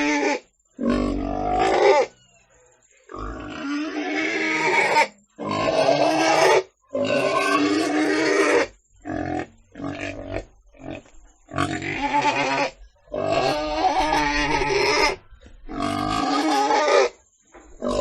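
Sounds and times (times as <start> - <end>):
pig calling: 0.0 - 2.2, 3.1 - 17.2.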